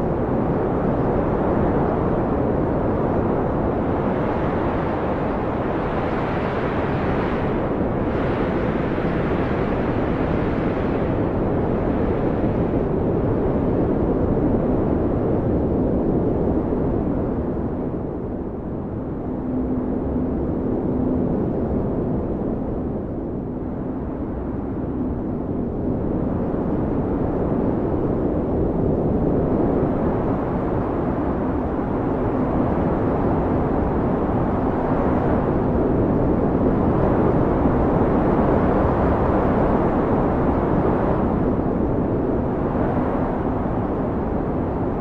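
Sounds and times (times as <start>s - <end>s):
blizzard wind gusting: 0.0s - 45.0s
faint howling wind tone: 0.0s - 45.0s.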